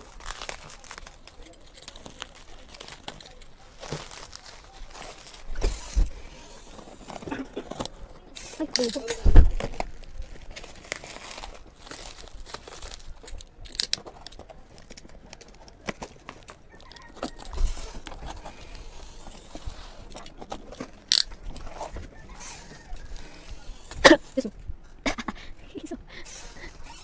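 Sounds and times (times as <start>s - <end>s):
packaging rustling and crinkling: 0.0s - 27.0s.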